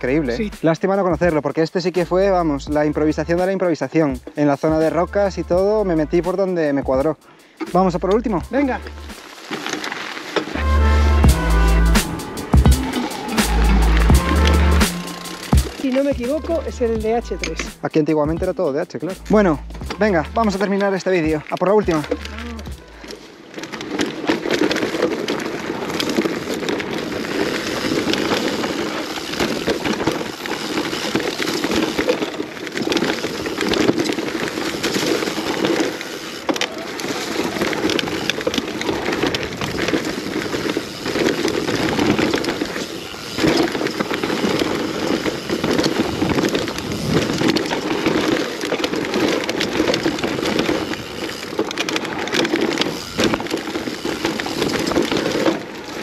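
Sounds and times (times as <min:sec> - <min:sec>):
bike tyres rattling over stones: 0:00.0 - 0:56.0.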